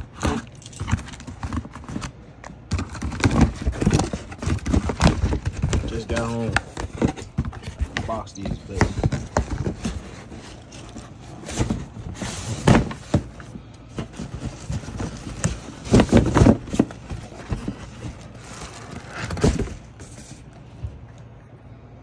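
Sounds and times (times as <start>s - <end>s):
cardboard scraping and rustling: 0.0s - 21.1s
knocks and thumps on cardboard box: 2.7s - 20.4s.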